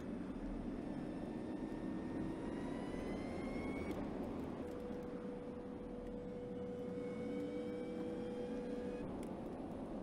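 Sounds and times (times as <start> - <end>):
electric drive whine: 0.0 - 9.4.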